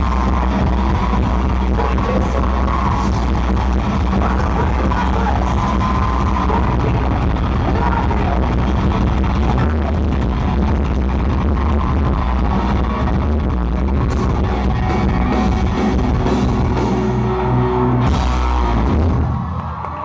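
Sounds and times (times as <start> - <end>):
live rock band playing: 0.0 - 19.9.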